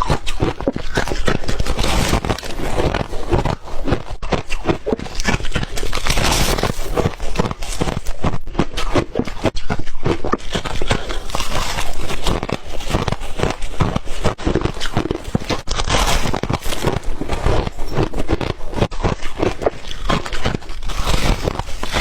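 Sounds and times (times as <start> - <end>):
person crunching ice: 0.0 - 22.0.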